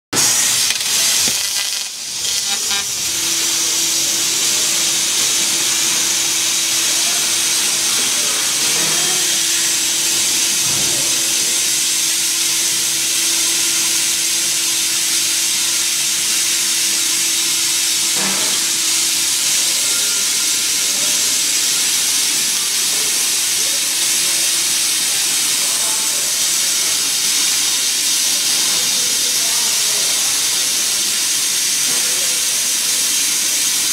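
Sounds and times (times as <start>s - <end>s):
laser cutter gas jet hissing: 0.1s - 33.9s.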